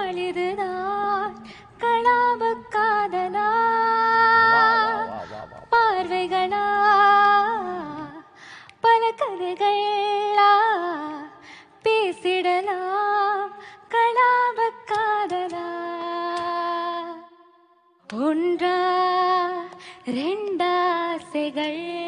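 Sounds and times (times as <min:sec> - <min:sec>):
woman singing slow melody: 0:00.0 - 0:17.5, 0:18.1 - 0:22.0.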